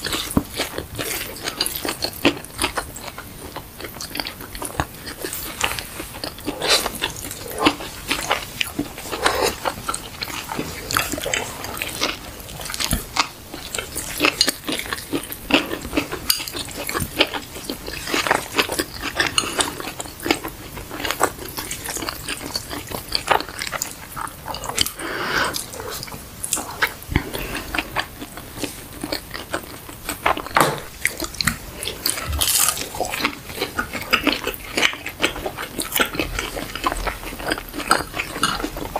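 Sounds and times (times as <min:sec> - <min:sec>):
people chewing and crunching: 0:00.0 - 0:38.9.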